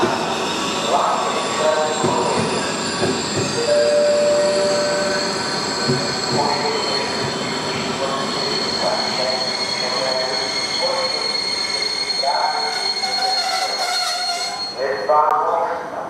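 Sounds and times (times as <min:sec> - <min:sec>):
train wheels squealing on rails: 0:00.0 - 0:15.3.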